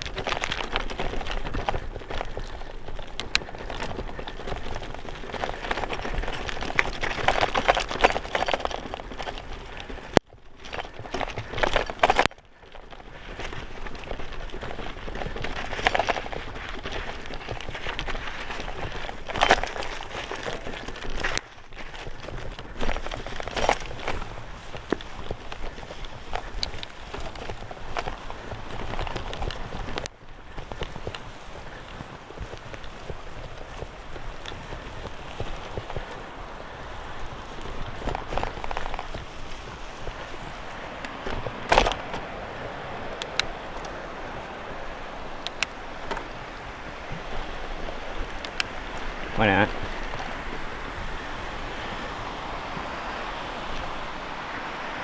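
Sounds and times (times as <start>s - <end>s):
bike knocking and rattling: 0.0s - 54.1s
bicycle tyres crunching on stones: 0.0s - 55.0s
wheels clattering over rough ground: 0.0s - 55.0s.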